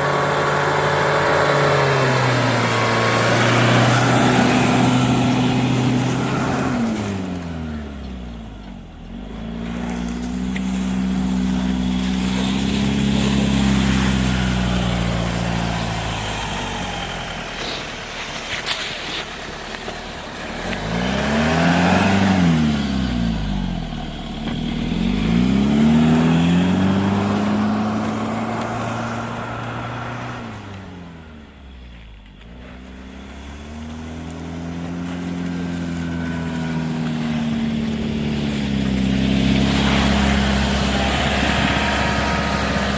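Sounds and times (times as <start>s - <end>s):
off-road vehicle engine revving: 0.0s - 42.9s.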